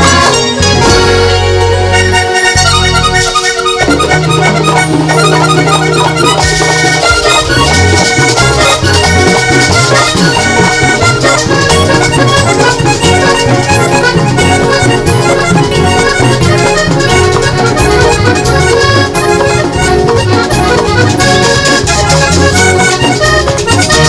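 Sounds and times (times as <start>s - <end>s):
accordion: 0.0s - 24.0s
bass line: 0.0s - 24.0s
percussion: 0.0s - 24.0s.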